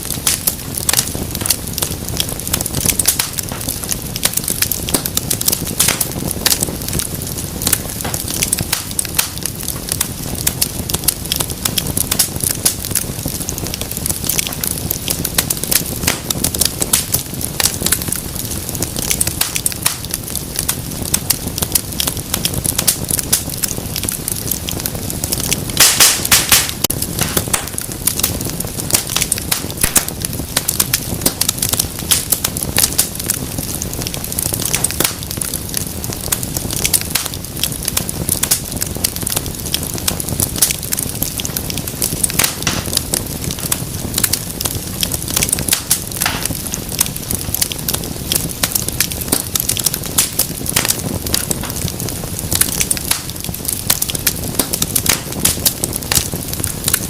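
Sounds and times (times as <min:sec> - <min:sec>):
fire hissing: 0:00.0 - 0:57.0
low rumble of burning: 0:00.0 - 0:57.0
wood fire crackling and popping: 0:00.0 - 0:57.0.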